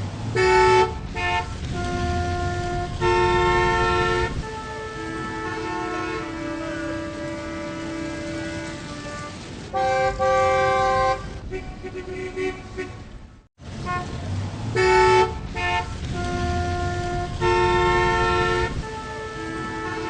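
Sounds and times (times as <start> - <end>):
low rumble of engines: 0.0 - 20.0
car horns honking: 0.3 - 13.2, 13.8 - 20.0.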